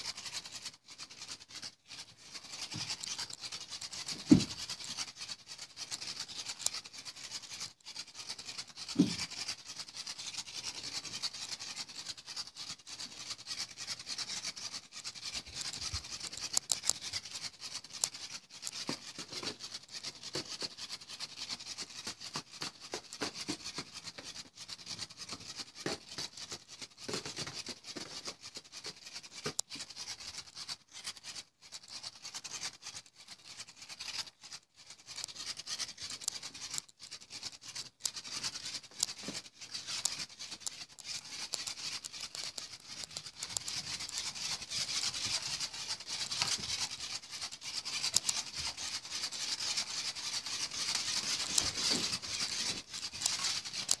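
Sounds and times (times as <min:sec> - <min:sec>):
scratchy rustling and rubbing: 0:00.0 - 0:54.0
small clicks and scrapes: 0:00.0 - 0:54.0.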